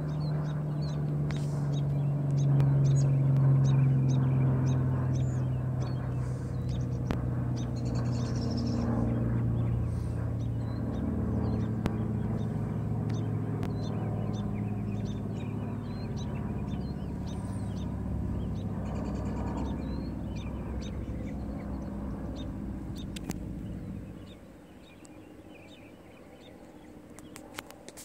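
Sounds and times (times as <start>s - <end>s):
birds chirping: 0.0s - 27.9s
distant propeller planes droning: 0.0s - 28.0s.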